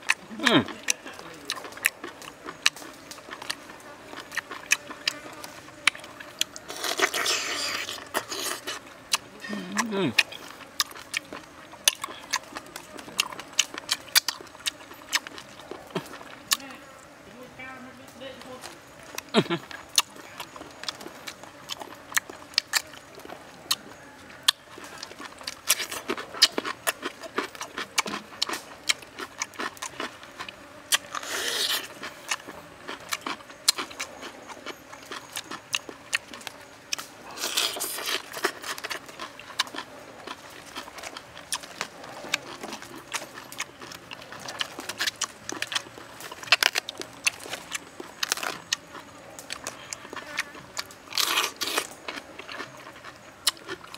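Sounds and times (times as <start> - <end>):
wet chewing clicks and smacks: 0.0 - 16.7, 18.6 - 53.9.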